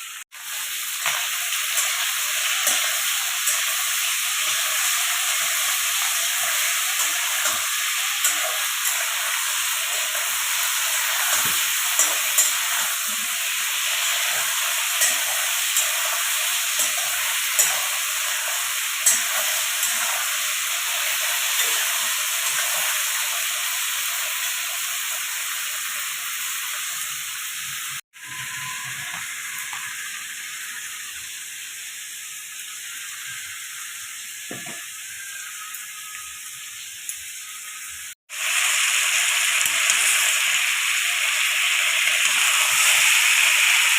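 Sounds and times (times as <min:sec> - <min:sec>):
vegetables sizzling in oil: 0:00.0 - 0:43.9.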